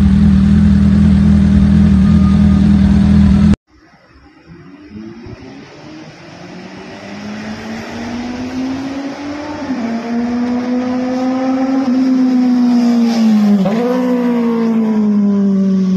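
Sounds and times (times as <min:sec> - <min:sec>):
motorcycle engine accelerating: 0:00.0 - 0:03.6, 0:04.4 - 0:15.9.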